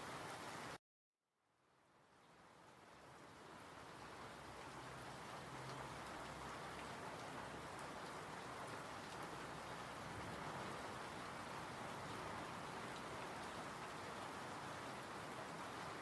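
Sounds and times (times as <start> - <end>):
steady rain falling: 0.0 - 0.8, 1.8 - 16.0.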